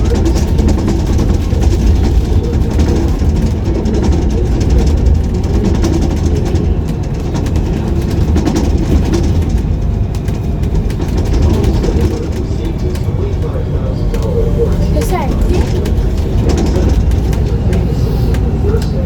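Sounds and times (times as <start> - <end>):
bus engine running: 0.0 - 19.0
city street traffic: 0.0 - 19.0.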